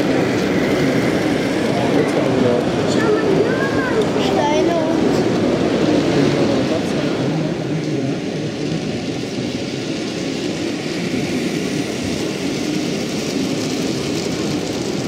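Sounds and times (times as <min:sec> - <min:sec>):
distant crowd murmur: 0:00.0 - 0:15.0
model trains running: 0:00.0 - 0:15.0.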